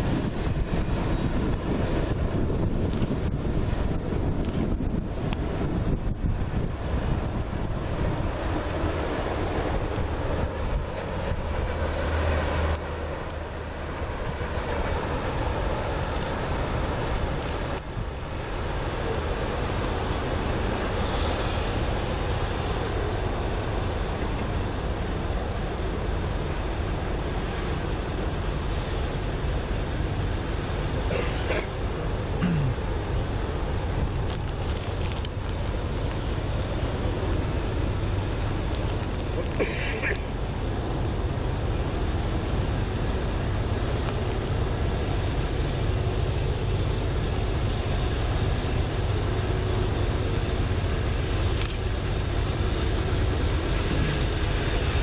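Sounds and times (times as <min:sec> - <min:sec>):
freight train rolling on rails: 0:00.0 - 0:55.0.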